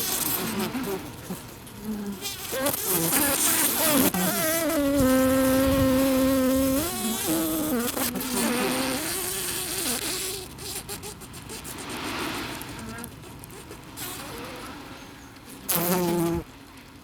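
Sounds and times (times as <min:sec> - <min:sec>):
bee colony hissing: 0:00.0 - 0:15.0
bee wing buzz: 0:00.0 - 0:15.0, 0:15.6 - 0:16.5.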